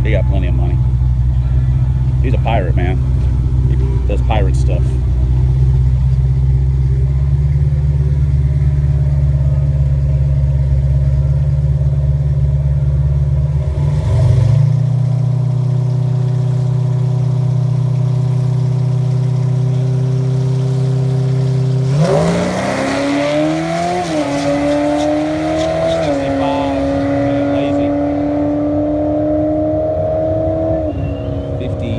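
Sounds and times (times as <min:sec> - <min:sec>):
drag car engine idling and revving: 0:00.0 - 0:31.9.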